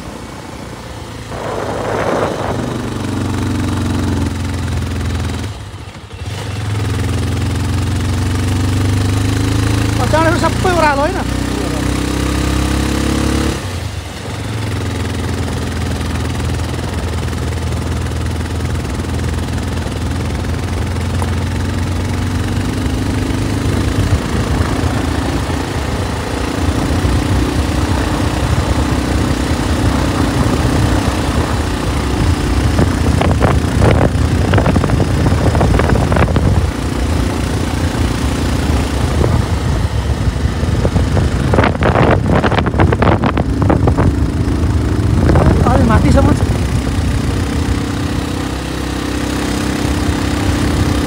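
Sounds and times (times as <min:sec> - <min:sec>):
motorcycle engine running: 0:00.0 - 0:51.0
rushing wind: 0:00.0 - 0:51.0.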